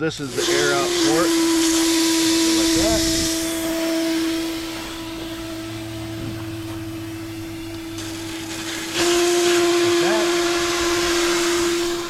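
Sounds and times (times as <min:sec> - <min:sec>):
air hissing out of a tire: 0:00.2 - 0:12.0.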